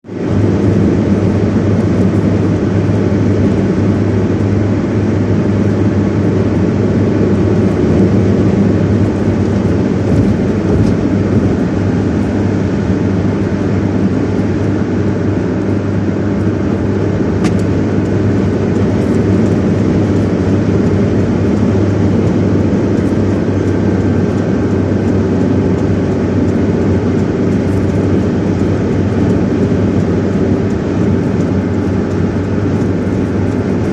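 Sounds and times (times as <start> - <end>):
moving car rumble: 0.0 - 33.9.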